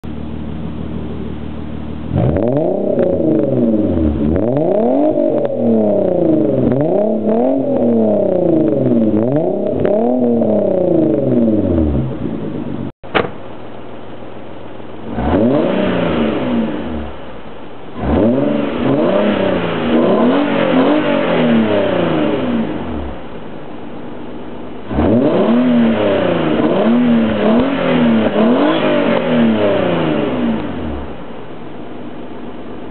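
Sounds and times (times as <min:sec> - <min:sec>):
car engine revving and idling: 0:00.0 - 0:13.0, 0:14.4 - 0:32.9.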